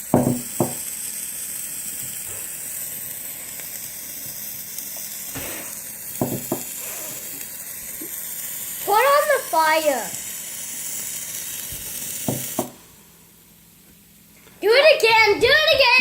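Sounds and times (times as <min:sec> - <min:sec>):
sparkler fizzing hiss: 0:00.0 - 0:16.0.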